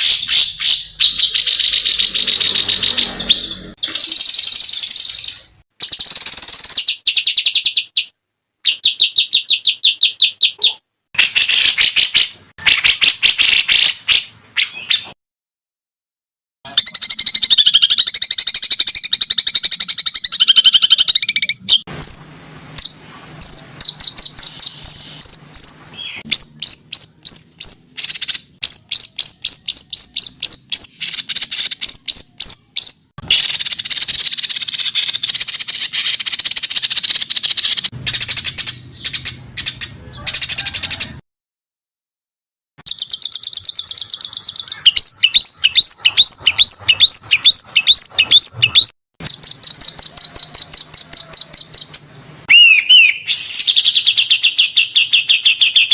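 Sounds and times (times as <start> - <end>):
songbird chirping: 0.0 - 15.2, 16.7 - 41.0, 42.8 - 55.9.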